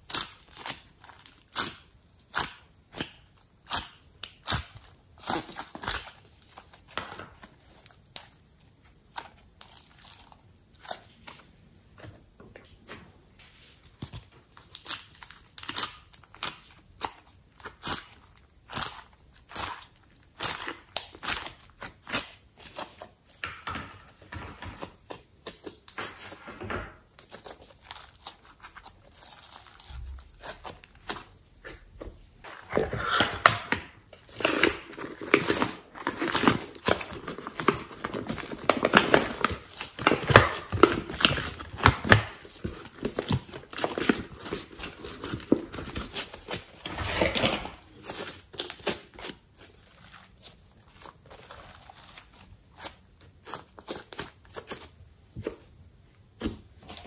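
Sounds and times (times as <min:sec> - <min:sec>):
slime crackling and squelching: 0:00.0 - 0:12.4, 0:13.8 - 0:56.8.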